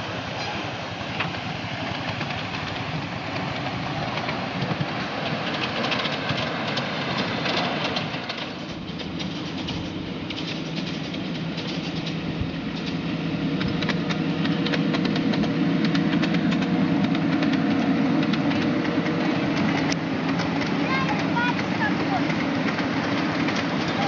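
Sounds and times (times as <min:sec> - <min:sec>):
miniature train rolling on track: 0:00.0 - 0:24.0
wheel clicks over rail joints: 0:02.0 - 0:24.0.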